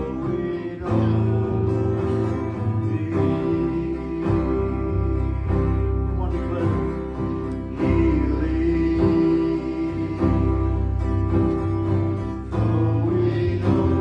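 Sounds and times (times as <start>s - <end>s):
worship music with guitar and bass: 0.0s - 14.0s.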